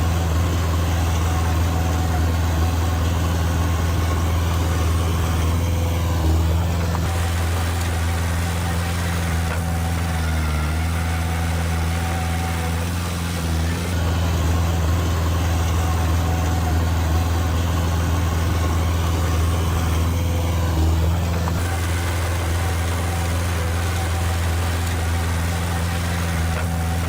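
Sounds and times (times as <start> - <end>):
heavy machinery diesel engine running: 0.0 - 27.0.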